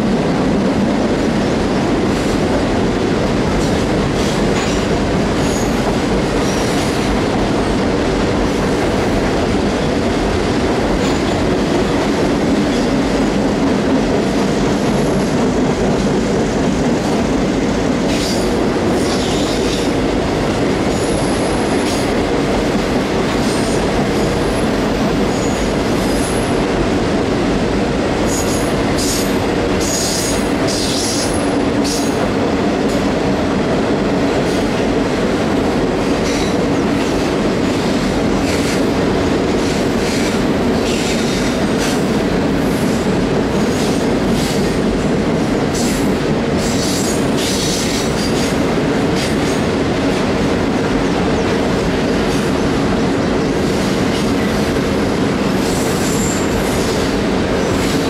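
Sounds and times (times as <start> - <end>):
train wheels rumbling on bridge: 0.0 - 58.0.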